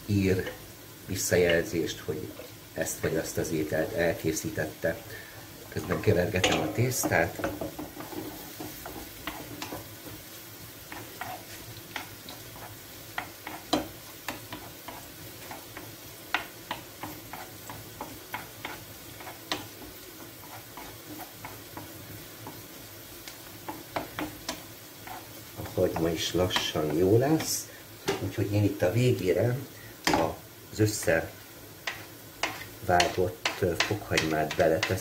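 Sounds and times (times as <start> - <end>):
onion sizzling in oil: 0.0 - 35.0
wooden spoon scraping a pan: 1.3 - 22.9, 23.5 - 28.8, 30.0 - 35.0.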